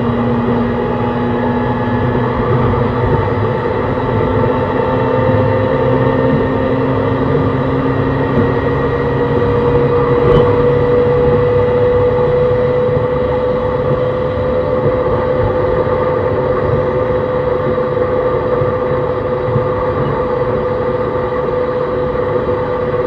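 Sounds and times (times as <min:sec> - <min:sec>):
electric train motor whine: 0:00.0 - 0:23.0
wheels rumbling on track: 0:00.0 - 0:23.0.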